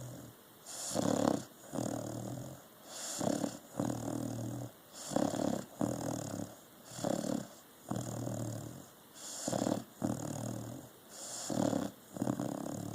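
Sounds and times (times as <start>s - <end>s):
dog snoring: 0.0s - 12.9s.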